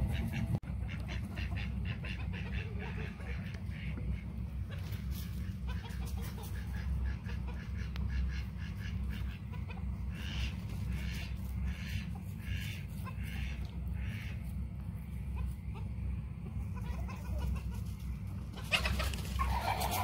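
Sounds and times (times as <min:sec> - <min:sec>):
birds calling: 0:00.0 - 0:20.0
steady low rumble: 0:00.0 - 0:20.0.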